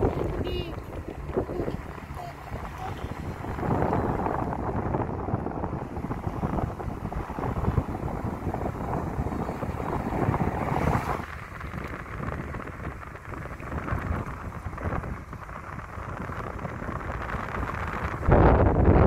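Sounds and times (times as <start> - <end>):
vehicle road noise: 0.0 - 19.0
wind hitting microphone: 0.0 - 19.0.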